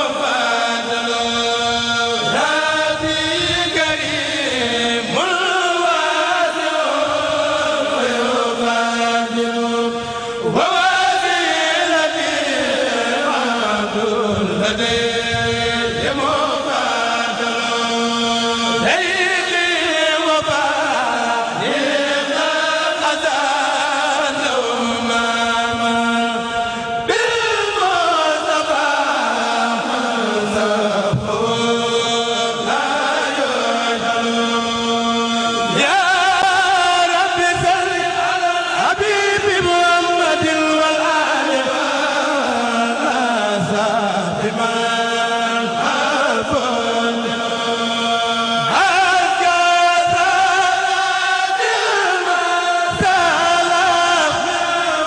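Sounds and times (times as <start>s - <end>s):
men chanting into a microphone: 0.0s - 55.0s
steady held vocal note: 0.0s - 55.0s.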